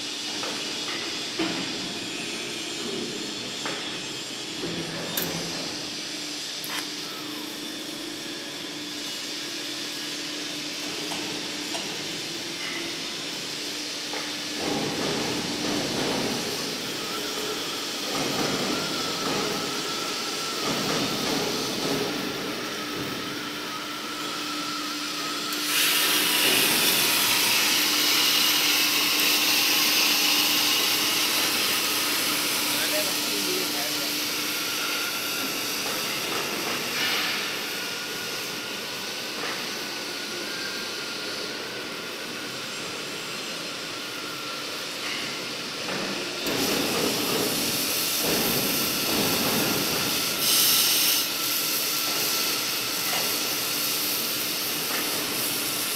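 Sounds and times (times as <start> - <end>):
workshop hum: 0.0 - 55.9
gas torch hissing: 0.2 - 44.8, 46.3 - 55.9.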